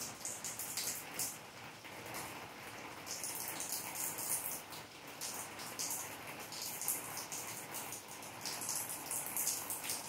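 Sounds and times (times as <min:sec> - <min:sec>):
rain on pavement and rooftops: 0:00.0 - 0:10.0.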